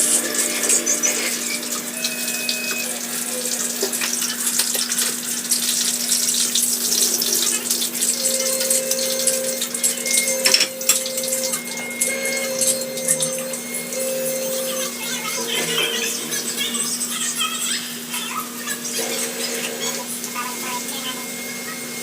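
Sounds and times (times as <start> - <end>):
water running from tap: 0.0 - 22.0.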